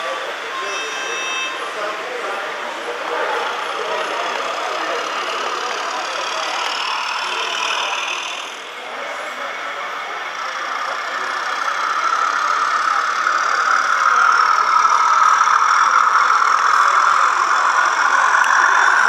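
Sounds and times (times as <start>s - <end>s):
model locomotive running: 0.0s - 19.0s.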